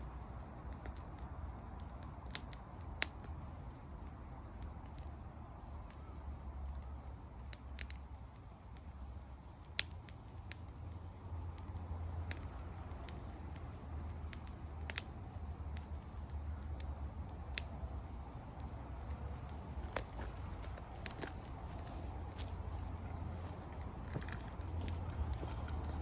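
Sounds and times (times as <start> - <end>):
campfire crackling: 0.0 - 26.0
low steady rumble: 0.0 - 26.0.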